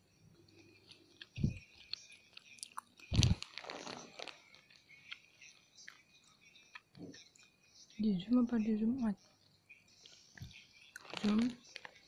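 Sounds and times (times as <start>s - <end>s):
person chewing and crunching food: 0.0s - 8.0s, 9.2s - 12.0s.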